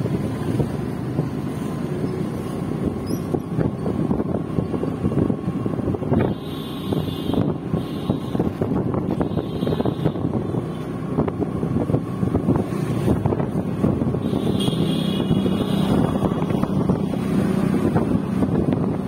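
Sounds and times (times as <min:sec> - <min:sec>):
vehicle engine and road rumble: 0:00.0 - 0:19.0
wind buffeting microphone: 0:00.0 - 0:19.0.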